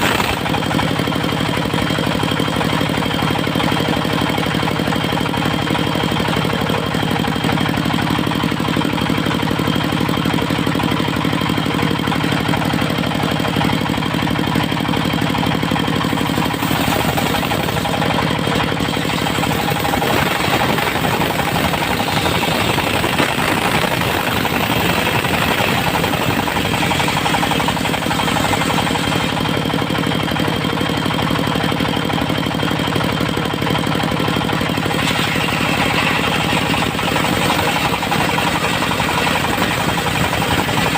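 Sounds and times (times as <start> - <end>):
saw blade cutting wood: 0.0 - 9.7, 11.6 - 29.8, 34.6 - 40.9
sawmill engine running: 0.0 - 40.9.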